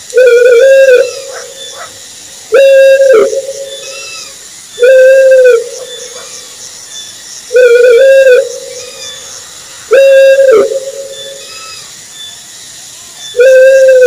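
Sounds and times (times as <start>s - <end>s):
owl hooting: 0.1s - 6.6s, 7.5s - 11.9s, 13.2s - 14.0s
faint high chirping: 2.7s - 14.0s.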